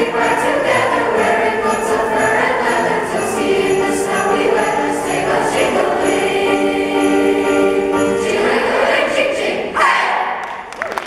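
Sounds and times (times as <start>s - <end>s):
youth choir singing: 0.0s - 10.4s.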